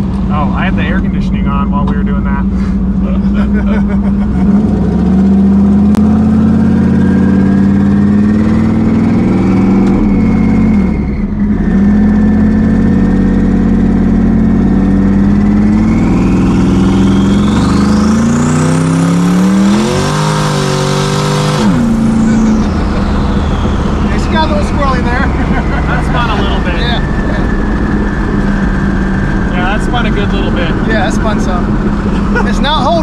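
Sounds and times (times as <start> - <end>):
car engine running and revving: 0.0 - 33.0
turbo whine rising in pitch: 0.0 - 33.0.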